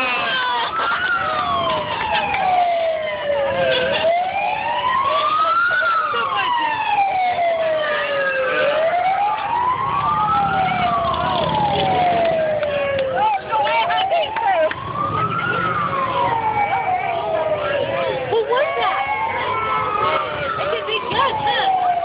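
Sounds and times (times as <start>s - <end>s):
emergency siren wailing: 0.0s - 22.0s
fainter siren sweeps: 0.0s - 22.0s.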